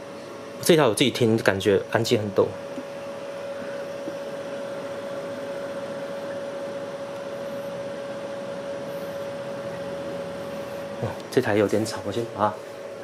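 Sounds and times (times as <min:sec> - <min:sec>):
fridge compressor fan hiss and hum: 0:00.0 - 0:13.0.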